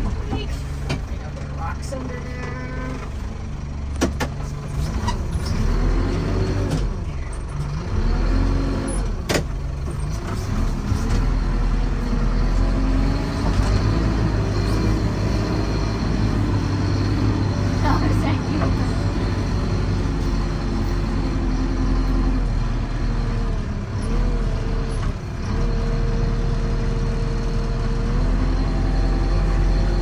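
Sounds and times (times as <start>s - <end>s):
backhoe diesel engine running: 0.0s - 30.0s.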